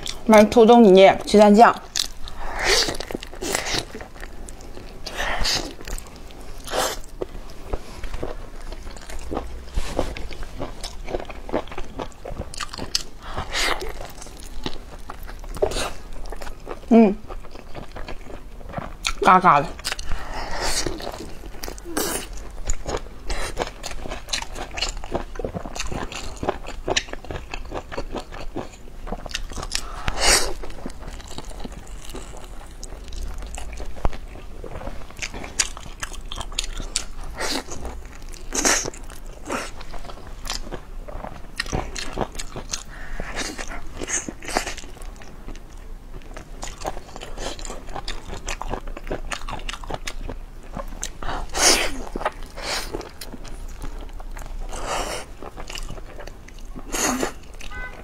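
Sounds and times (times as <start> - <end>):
biting and chewing food: 1.8 - 58.0.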